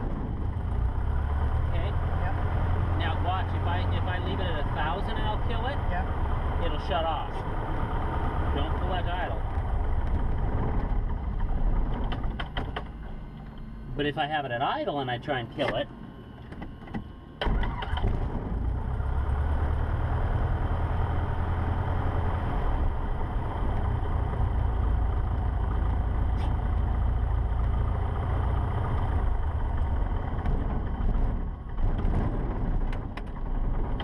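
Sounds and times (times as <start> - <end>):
aircraft engine running in cabin: 3.0 - 19.4, 22.5 - 34.0.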